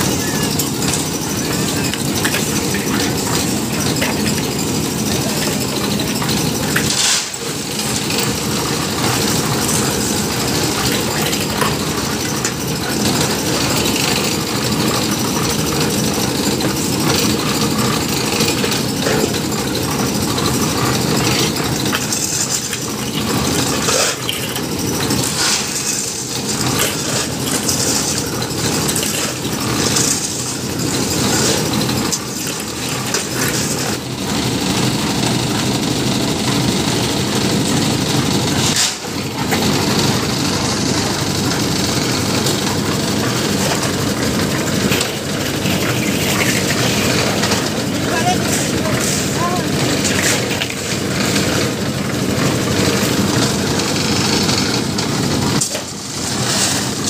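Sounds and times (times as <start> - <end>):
concrete mixer running: 0.0 - 57.0.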